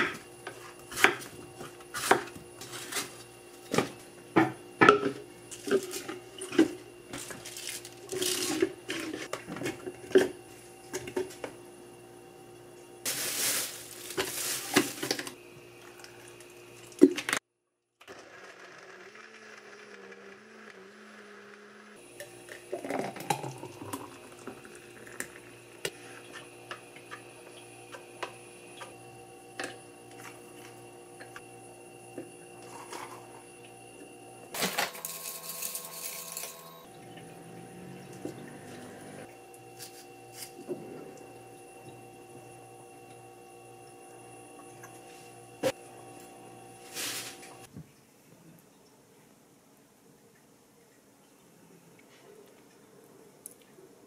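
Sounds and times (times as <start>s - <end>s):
blender running: 0.0s - 17.4s, 18.0s - 47.7s.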